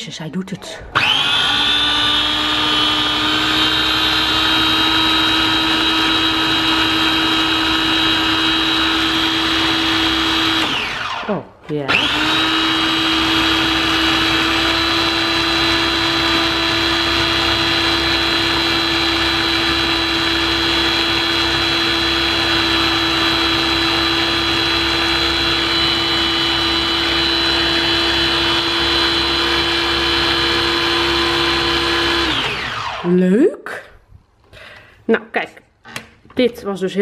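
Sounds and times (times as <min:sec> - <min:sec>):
blender motor whining: 0:00.9 - 0:33.2.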